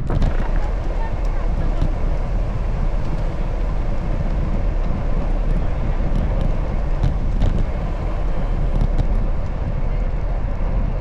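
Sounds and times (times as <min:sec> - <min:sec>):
traffic: 0:00.0 - 0:11.0
wind rumble: 0:00.0 - 0:11.0.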